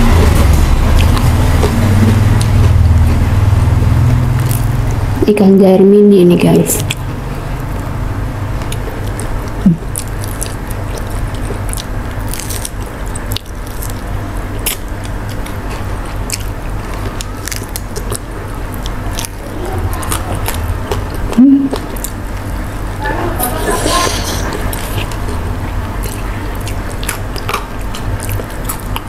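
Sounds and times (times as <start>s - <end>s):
chewing crunchy fried fish: 0.0s - 4.9s, 6.8s - 23.1s, 24.0s - 29.0s.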